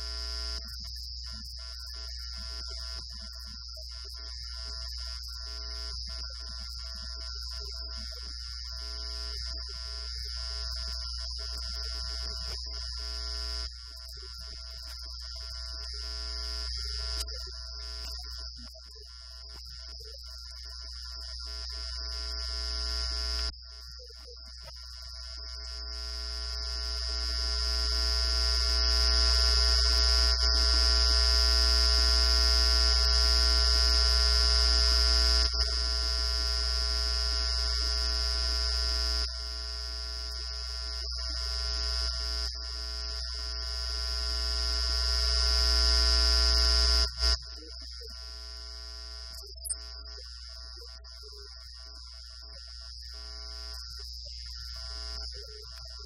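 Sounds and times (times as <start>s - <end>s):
electrical hum with whine: 0.0s - 56.0s.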